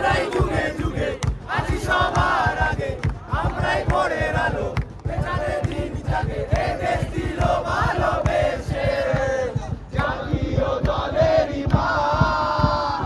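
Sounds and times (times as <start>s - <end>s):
crowd chanting and singing: 0.0s - 13.0s.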